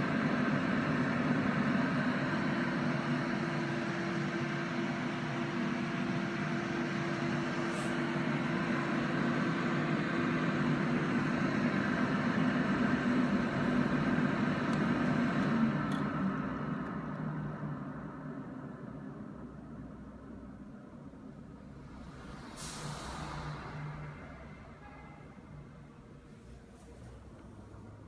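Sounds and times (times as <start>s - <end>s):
air purifier fan noise: 0.0s - 23.8s.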